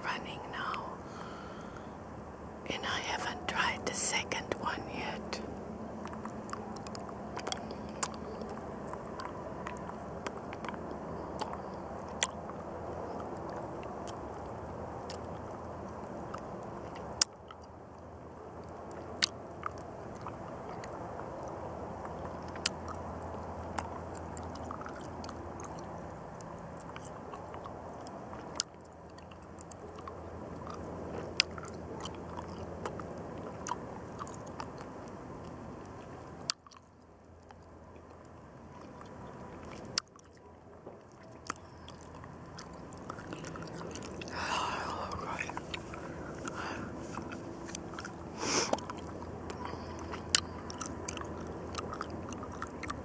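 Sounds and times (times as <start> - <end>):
low background noise: 0.0 - 53.0
chewing candy close up: 6.0 - 53.0.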